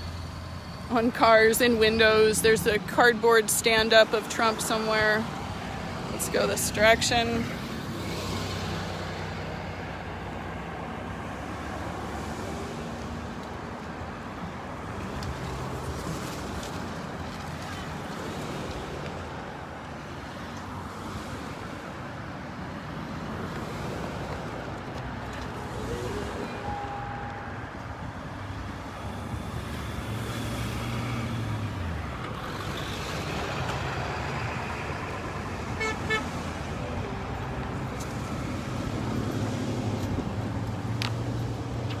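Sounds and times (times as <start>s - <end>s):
cars and trucks driving past: 0.0s - 42.0s.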